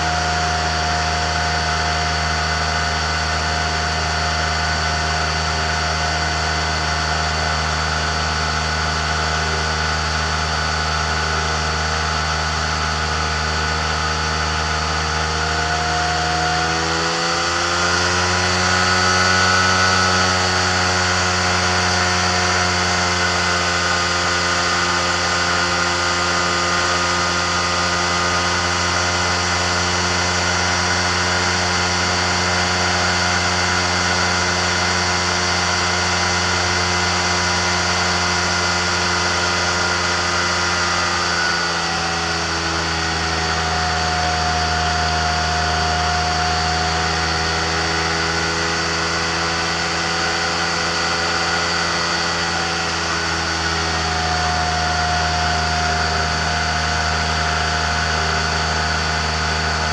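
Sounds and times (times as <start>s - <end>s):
engine and propeller in flight: 0.0s - 59.9s.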